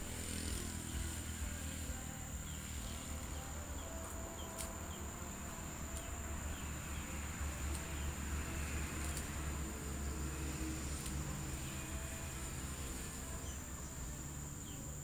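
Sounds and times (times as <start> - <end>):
high-pitched insect drone: 0.0 - 15.0
low outdoor rumble: 0.0 - 15.0.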